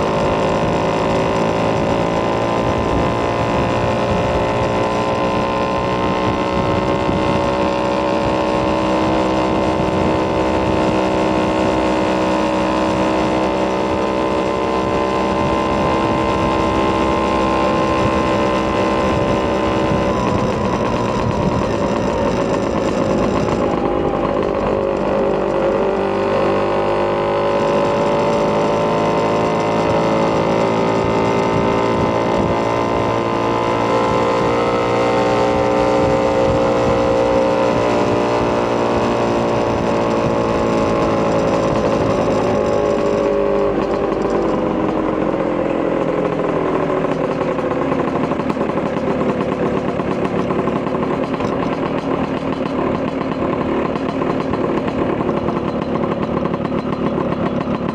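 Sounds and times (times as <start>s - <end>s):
scooter engine revving: 0.0s - 57.9s.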